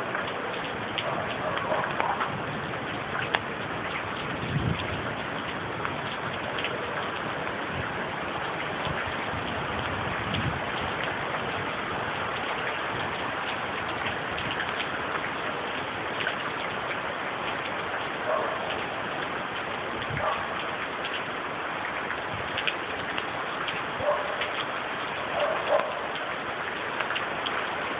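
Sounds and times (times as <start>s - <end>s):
steady rain: 0.0s - 27.9s.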